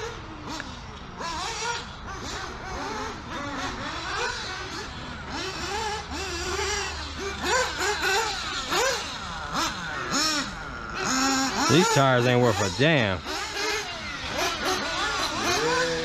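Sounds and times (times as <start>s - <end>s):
rc car engine revving: 0.0s - 16.0s.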